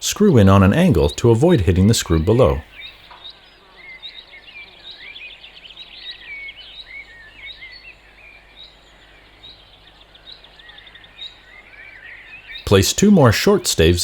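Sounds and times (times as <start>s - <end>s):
faint background hiss: 0.0s - 14.0s
small birds chirping: 0.0s - 14.0s.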